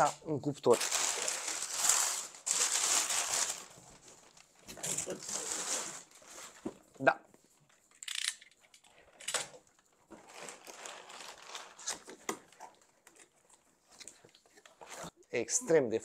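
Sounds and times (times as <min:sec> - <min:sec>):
packing paper rustling: 0:00.0 - 0:07.0, 0:09.0 - 0:15.1.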